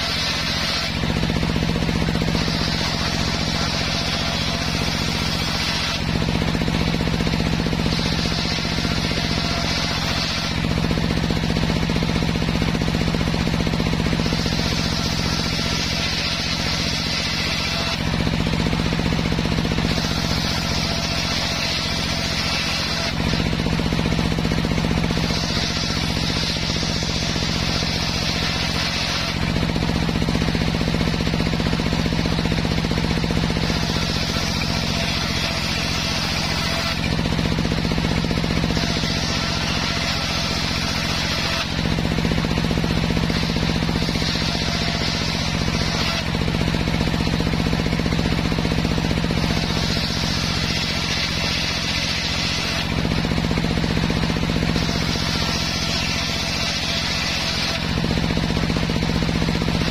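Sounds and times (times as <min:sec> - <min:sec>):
circular saw cutting wood: 0:00.0 - 0:59.9
circular saw drone: 0:00.0 - 0:59.9.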